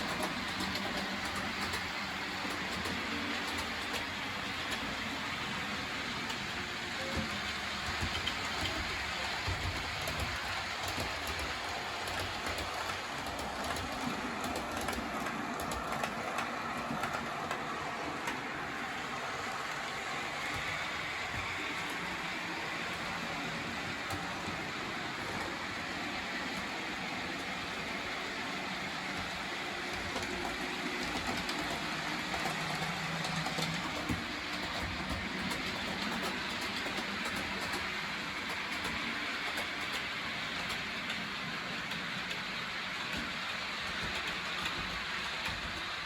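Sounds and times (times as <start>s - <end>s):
wheels clicking over rail joints: 0.0s - 19.2s, 19.8s - 46.0s
model train rolling hum: 0.0s - 46.0s.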